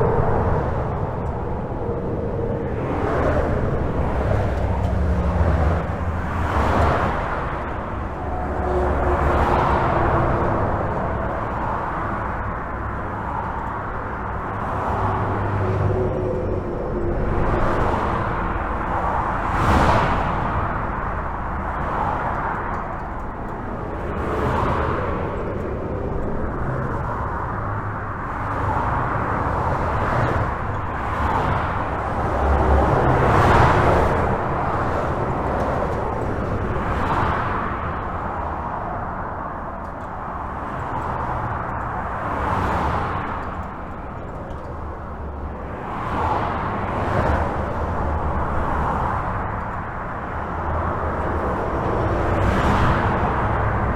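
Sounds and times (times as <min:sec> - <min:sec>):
highway traffic: 0:00.0 - 0:53.9
vehicles passing: 0:00.0 - 0:53.9.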